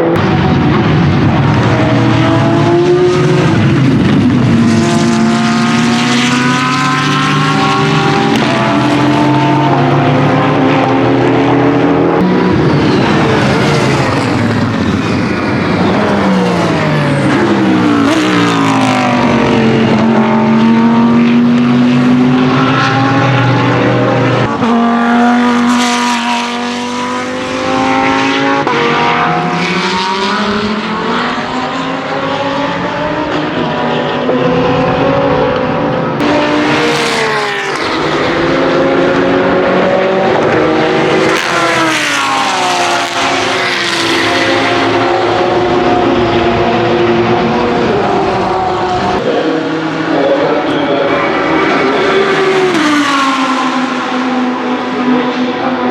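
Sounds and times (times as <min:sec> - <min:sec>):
race car engines passing: 0:00.0 - 0:55.9.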